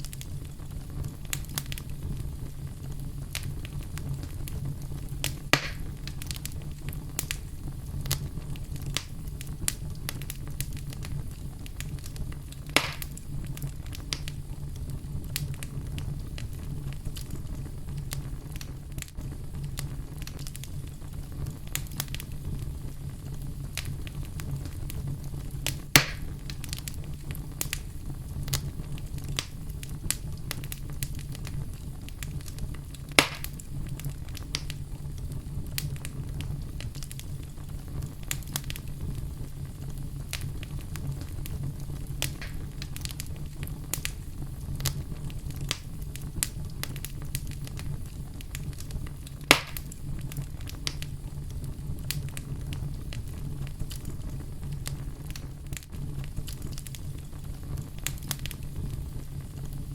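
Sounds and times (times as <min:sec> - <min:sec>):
fire popping: 0:00.0 - 0:59.9
wood fire crackling: 0:00.0 - 0:59.9.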